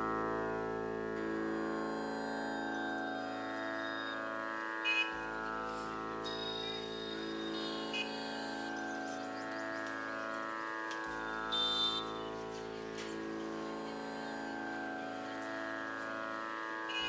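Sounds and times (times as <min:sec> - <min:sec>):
drone of held tones: 0:00.0 - 0:17.0.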